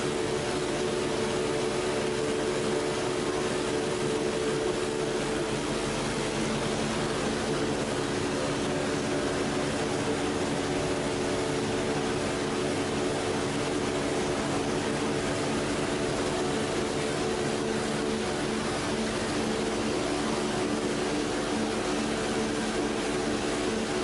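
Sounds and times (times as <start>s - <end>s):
machine drone with hum tones: 0.0s - 24.0s.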